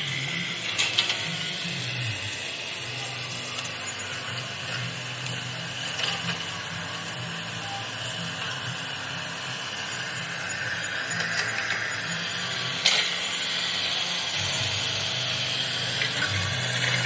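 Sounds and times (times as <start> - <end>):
toy excavator motor humming: 0.0 - 17.0.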